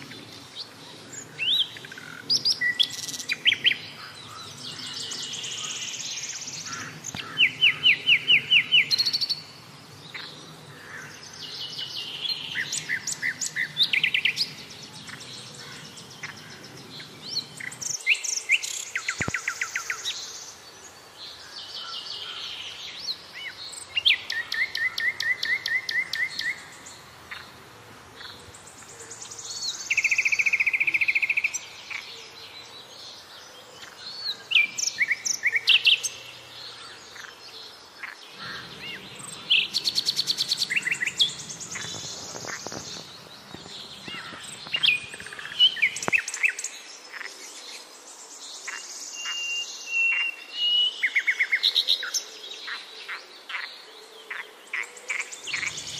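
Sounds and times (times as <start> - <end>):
birds singing and calling: 0.0 - 55.9.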